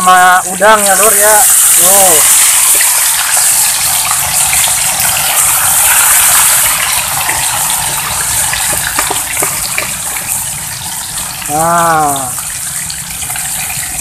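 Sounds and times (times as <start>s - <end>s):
fish deep-frying in hot oil: 0.0s - 14.0s.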